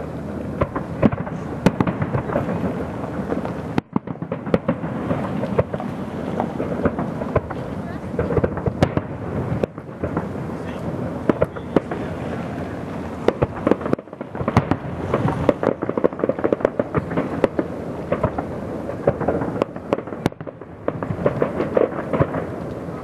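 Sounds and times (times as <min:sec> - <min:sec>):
fireworks bangs and crackles: 0:00.0 - 0:23.0
rumble of fireworks bursts: 0:00.0 - 0:23.0.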